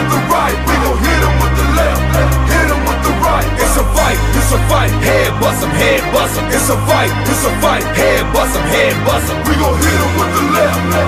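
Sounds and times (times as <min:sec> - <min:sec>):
hip-hop track with vocals: 0:00.0 - 0:11.0.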